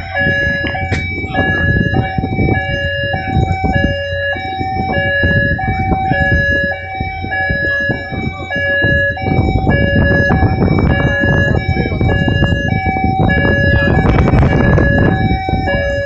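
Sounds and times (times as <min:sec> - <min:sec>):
two-tone alarm: 0:00.0 - 0:16.0.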